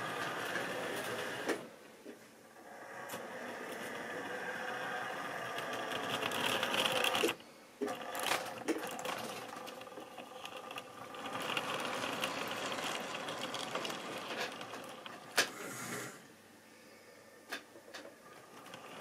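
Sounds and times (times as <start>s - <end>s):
wheels clicking over rail joints: 0.0s - 1.6s, 2.7s - 15.7s, 17.5s - 19.0s
model train rattling whirr: 0.0s - 1.7s, 2.5s - 16.2s, 17.5s - 19.0s.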